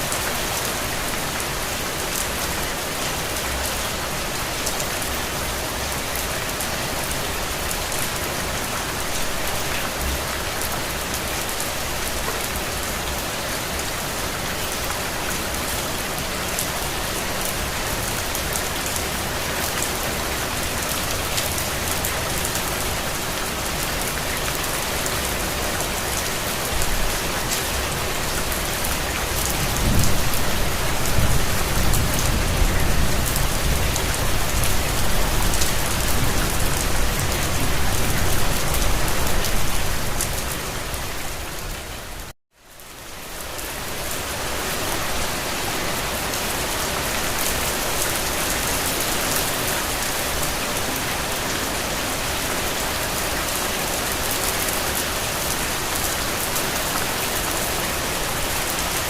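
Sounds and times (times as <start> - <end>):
rain on hard surface: 0.0 - 59.0.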